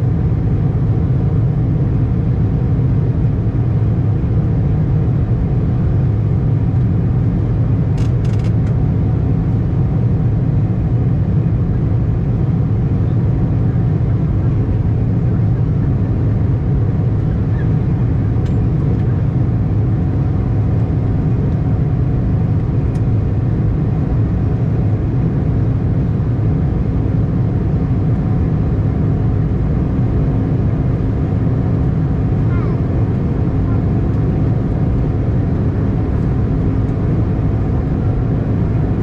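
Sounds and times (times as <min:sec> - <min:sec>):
jet cabin engine rumble: 0:00.0 - 0:39.0
steady hum: 0:00.0 - 0:39.0.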